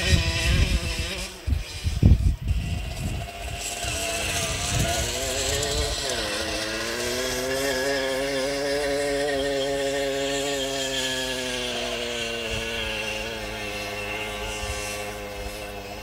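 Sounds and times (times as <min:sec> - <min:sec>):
moped engine at high revs: 0:00.0 - 0:16.0.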